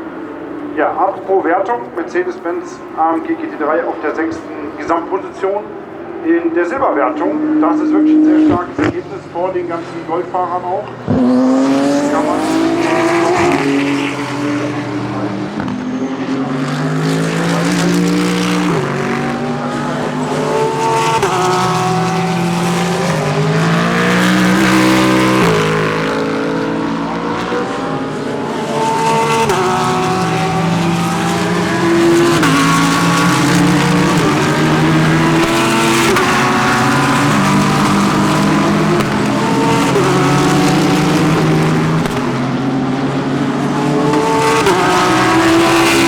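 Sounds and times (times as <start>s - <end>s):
race car engines shifting gears: 0.0s - 46.0s.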